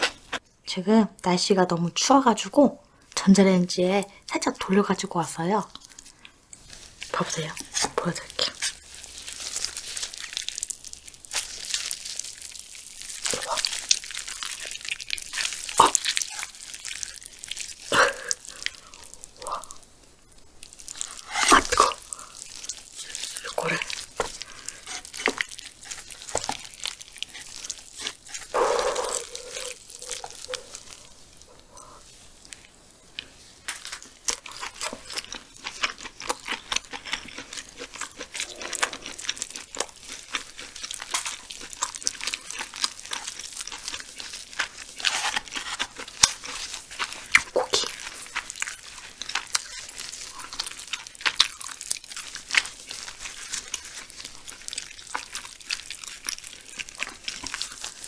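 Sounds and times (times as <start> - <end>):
wet chewing and mouth smacks: 5.7 - 58.0.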